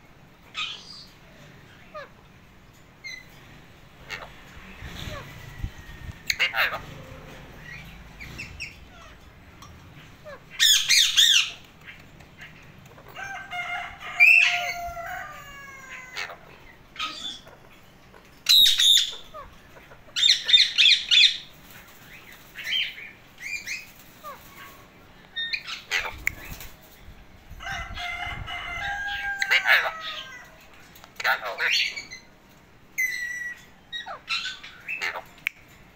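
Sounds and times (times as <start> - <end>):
parakeets squawking and chattering: 0.4 - 35.9.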